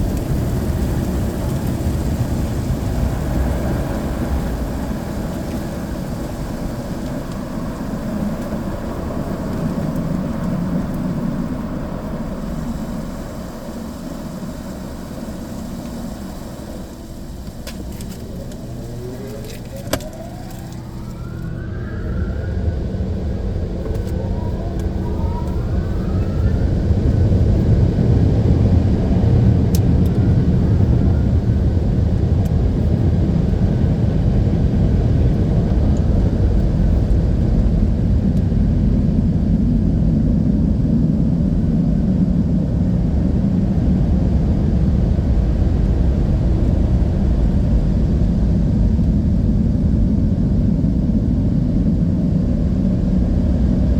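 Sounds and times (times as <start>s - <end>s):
car wash dryer blowers: 0.0s - 53.9s.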